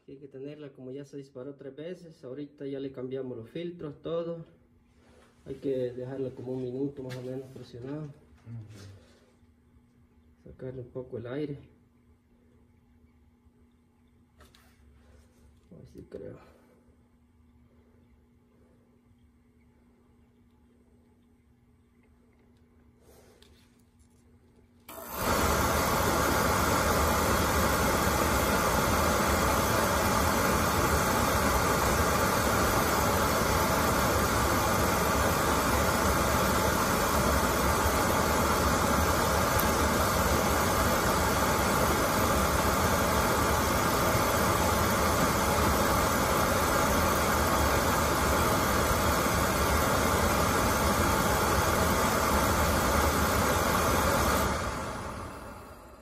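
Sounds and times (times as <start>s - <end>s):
oil burner motor and fan running: 4.9s - 56.0s.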